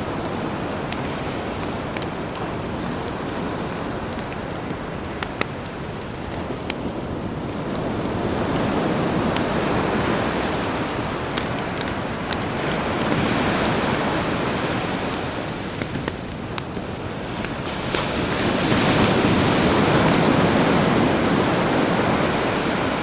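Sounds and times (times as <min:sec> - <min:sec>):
campfire crackling: 0:00.0 - 0:23.0
sea waves washing ashore: 0:00.0 - 0:23.0.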